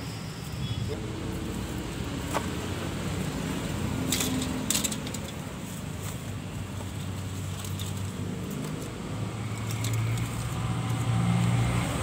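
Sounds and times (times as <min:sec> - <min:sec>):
dry leaves crackling: 0:00.8 - 0:12.0.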